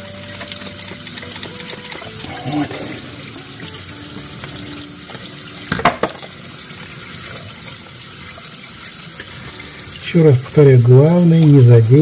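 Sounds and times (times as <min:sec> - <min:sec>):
tap running into sink: 0:00.0 - 0:12.0.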